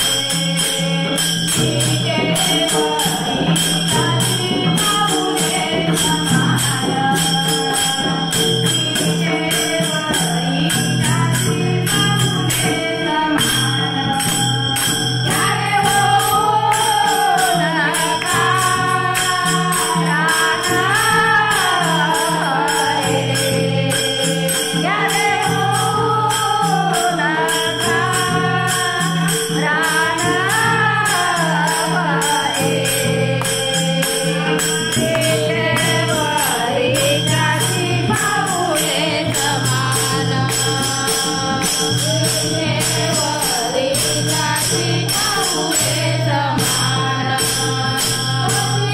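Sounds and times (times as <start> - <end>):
small hand cymbals beat: 0.0 - 48.9
voices singing devotional song: 0.0 - 48.9.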